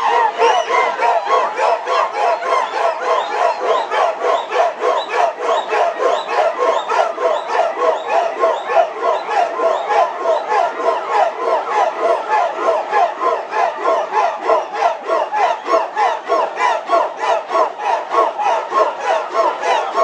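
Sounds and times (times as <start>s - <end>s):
crowd chanting in unison: 0.0s - 20.0s
rhythmic rising shouts: 0.0s - 20.0s.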